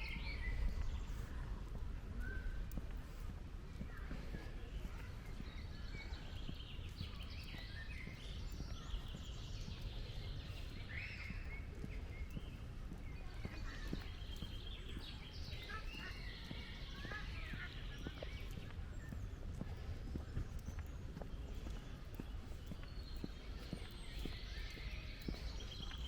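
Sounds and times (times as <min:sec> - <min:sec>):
birds singing and chirping: 0:00.0 - 0:26.0
soft footsteps: 0:00.0 - 0:26.0.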